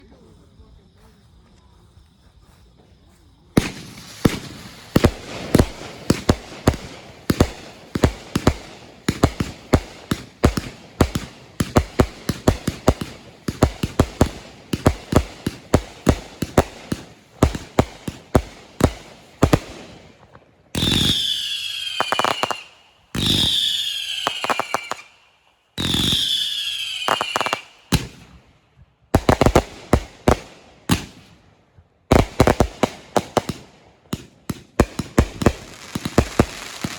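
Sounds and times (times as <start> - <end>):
whistling fireworks: 0.0 - 36.9
firecrackers banging: 3.6 - 25.2, 25.8 - 28.4, 29.2 - 31.3, 32.1 - 36.9.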